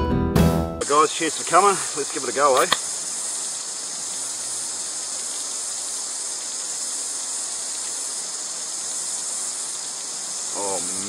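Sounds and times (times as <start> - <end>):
high-pitched insect chorus: 0.8 - 11.0.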